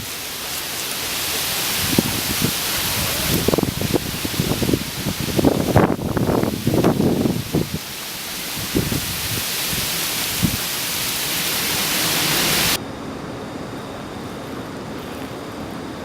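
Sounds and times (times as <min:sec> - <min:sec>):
dull hiss: 0:00.0 - 0:16.0
loud rushing hiss: 0:00.0 - 0:16.0.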